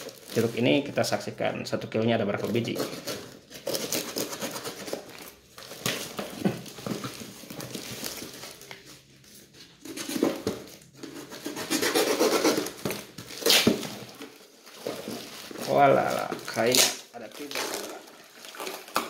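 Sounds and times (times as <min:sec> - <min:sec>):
cardboard and tape ripping: 0:02.4 - 0:08.9, 0:09.8 - 0:19.0.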